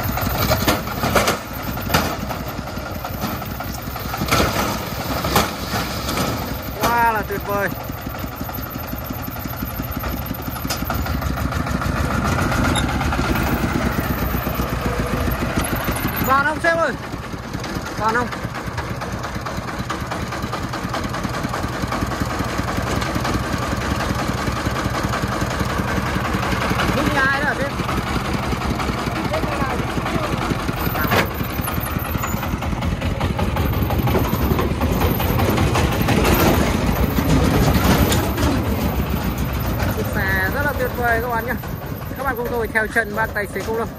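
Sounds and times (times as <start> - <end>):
diesel engine clattering: 0.0 - 43.9.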